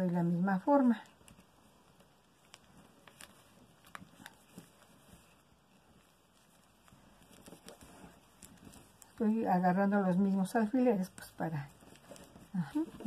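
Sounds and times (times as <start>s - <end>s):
faint taps and fabric rustles: 0.0s - 13.0s.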